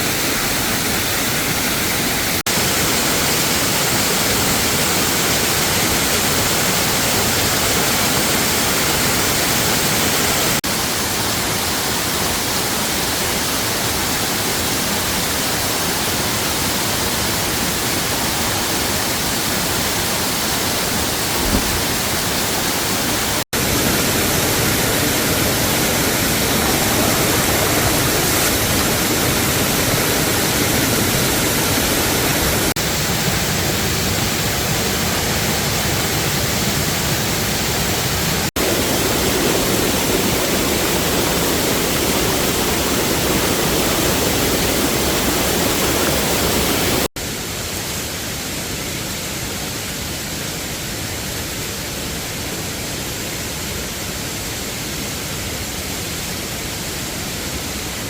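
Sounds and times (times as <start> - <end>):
waterfall rushing: 0.0 - 52.4.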